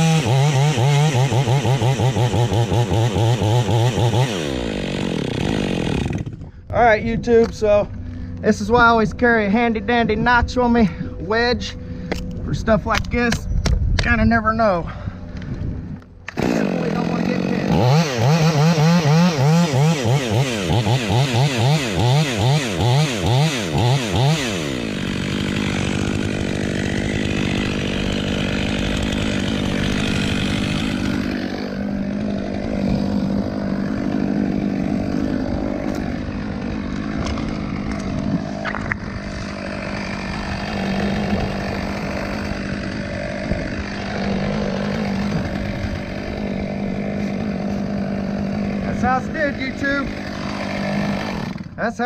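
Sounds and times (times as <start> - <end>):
chainsaw cutting wood: 0.0 - 6.7, 15.3 - 51.8.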